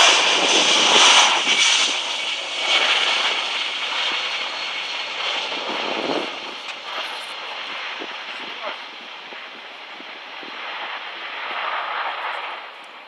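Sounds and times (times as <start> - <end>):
jet engines at takeoff: 0.0 - 13.0.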